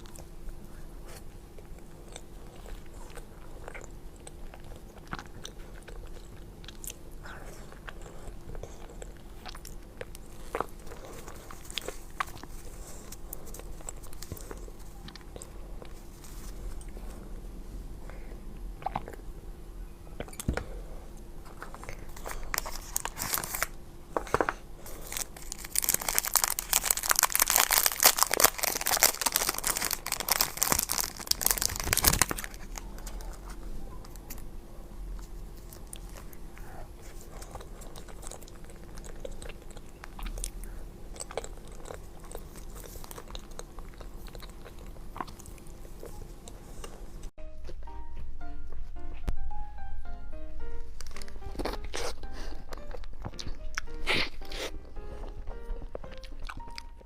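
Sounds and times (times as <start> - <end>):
crunchy food chewing: 0.0 - 17.4, 18.1 - 19.2, 20.2 - 34.5, 35.1 - 47.3, 51.0 - 57.0.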